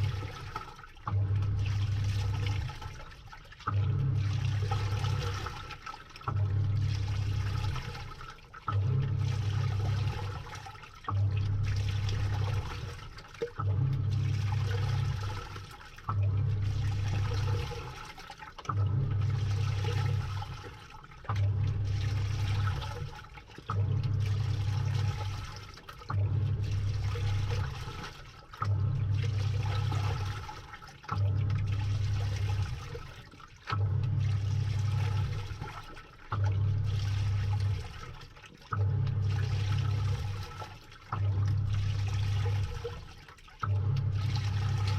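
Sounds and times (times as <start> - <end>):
washing machine motor humming: 0.0 - 44.9
water sloshing: 0.0 - 44.9.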